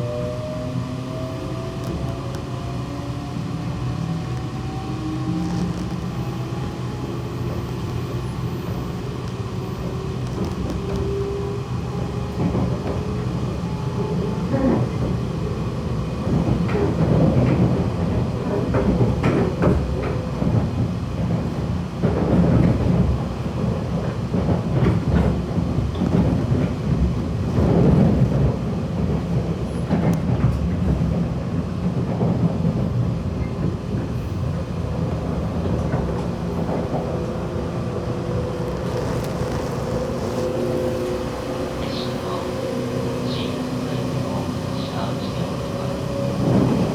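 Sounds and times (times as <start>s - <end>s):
train carriage rumble: 0.0s - 46.9s.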